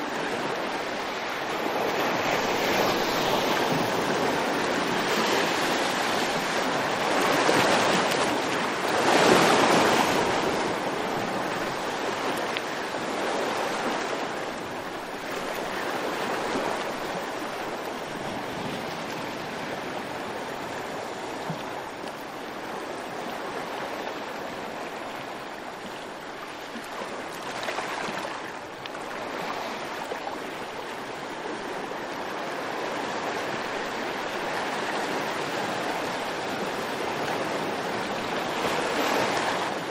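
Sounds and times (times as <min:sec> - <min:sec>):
waves washing: 0:00.0 - 0:39.9.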